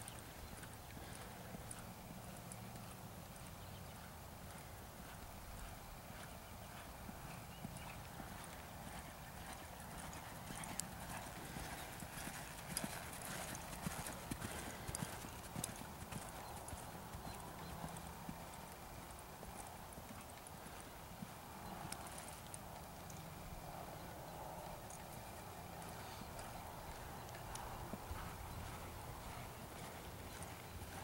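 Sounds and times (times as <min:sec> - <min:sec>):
horse hoofbeats on dirt: 0:00.0 - 0:31.0.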